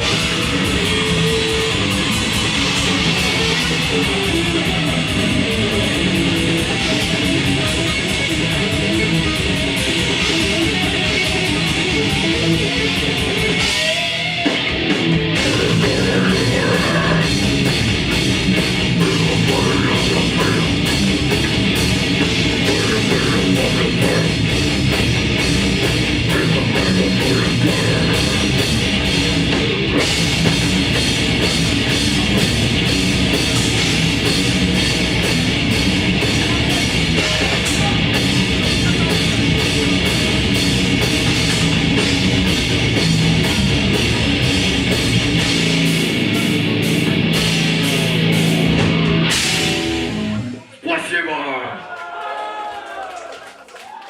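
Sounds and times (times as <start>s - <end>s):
rapid drumming: 0.0s - 50.2s
grindcore band playing: 0.0s - 51.0s
distorted electric guitars: 0.0s - 51.1s.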